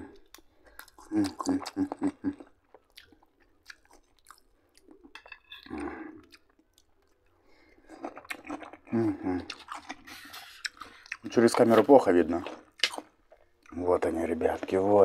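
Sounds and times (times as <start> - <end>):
person chewing food: 0.0 - 13.8.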